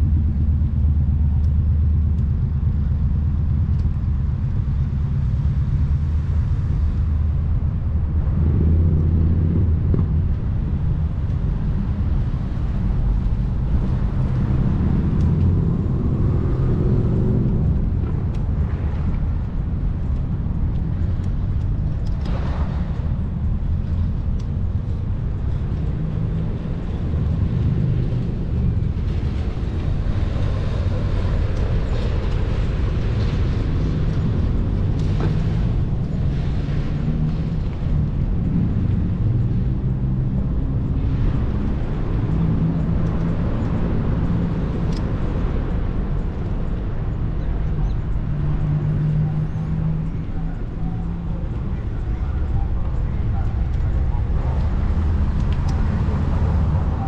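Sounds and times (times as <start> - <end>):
road traffic rumble: 0.0 - 57.0
vehicle passing by: 6.1 - 21.4, 24.8 - 57.0.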